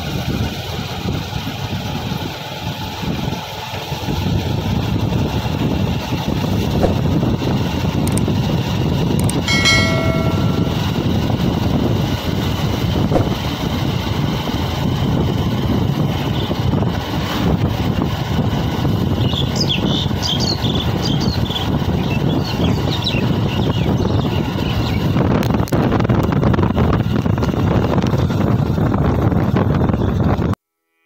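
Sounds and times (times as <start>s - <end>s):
vehicle road rumble and wind: 0.0s - 30.6s.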